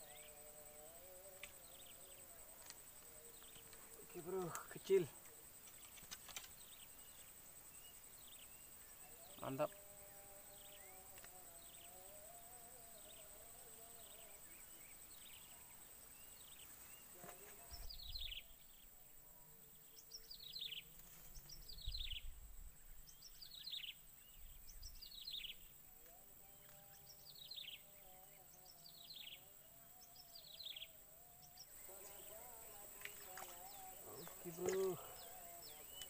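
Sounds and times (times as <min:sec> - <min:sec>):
bird chirping: 0:00.0 - 0:19.0, 0:19.6 - 0:36.0.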